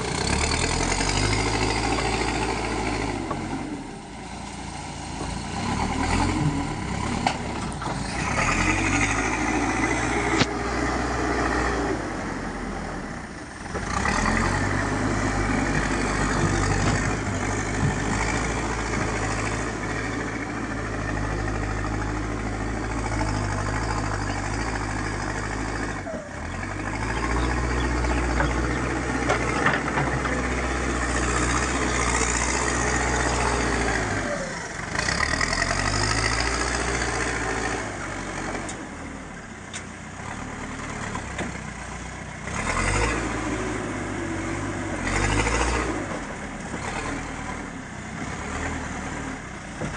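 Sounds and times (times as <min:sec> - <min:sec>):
diesel engine working under load: 0:00.0 - 0:49.9.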